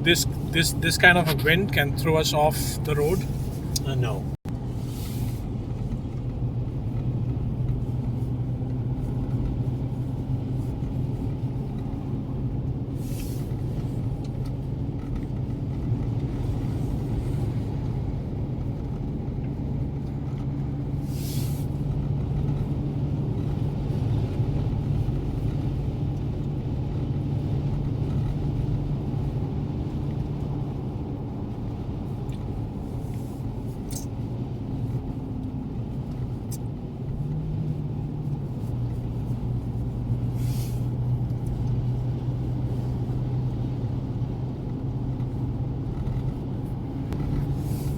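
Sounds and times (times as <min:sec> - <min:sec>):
engine and road hum: 0:00.0 - 0:47.9.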